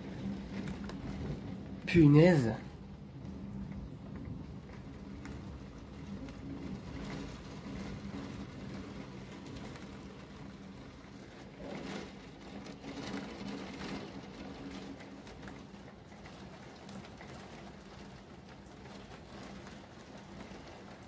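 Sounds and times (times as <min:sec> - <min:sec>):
heavy rain pouring: 0:00.0 - 0:21.0
raindrops striking window: 0:00.1 - 0:21.0.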